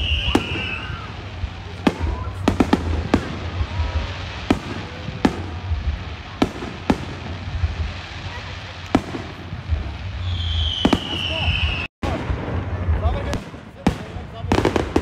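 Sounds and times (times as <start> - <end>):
fireworks bursting with sharp bangs: 0.0 - 15.0.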